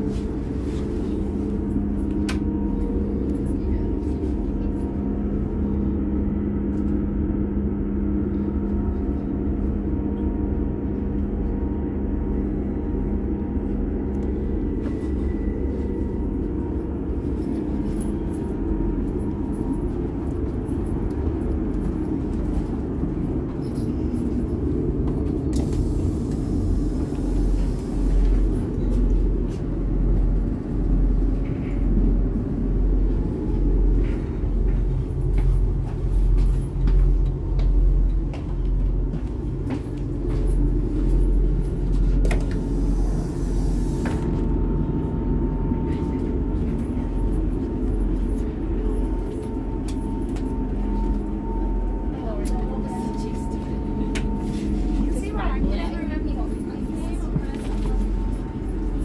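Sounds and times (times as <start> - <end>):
steady hum: 0.0 - 59.0
train diesel engine rumble: 0.0 - 59.0.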